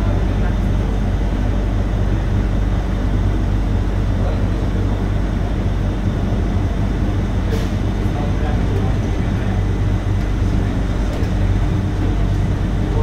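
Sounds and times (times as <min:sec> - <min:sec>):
shuttle train rumbling with hum: 0:00.0 - 0:13.0.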